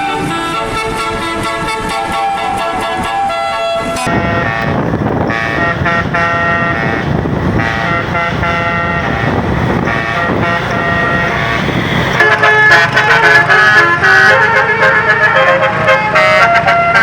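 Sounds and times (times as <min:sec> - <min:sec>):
low engine rumble: 0:00.0 - 0:17.0
musical bus air horn: 0:00.0 - 0:17.0.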